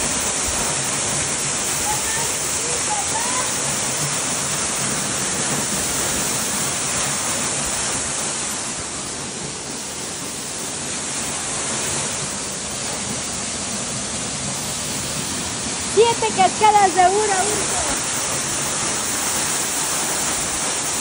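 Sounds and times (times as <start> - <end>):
waterfall pouring: 0.0 - 21.0.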